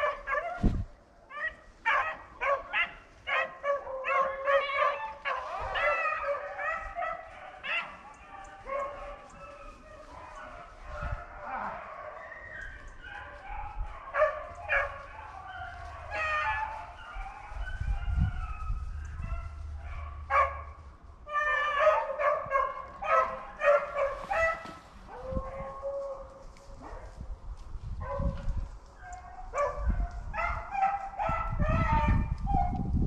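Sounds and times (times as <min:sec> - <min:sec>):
hunting dogs baying and yipping: 0:00.0 - 0:32.9.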